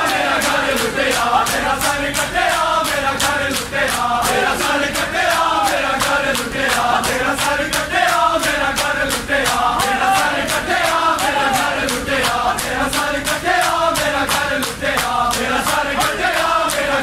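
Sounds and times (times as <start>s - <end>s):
crowd chanting: 0.0s - 17.0s.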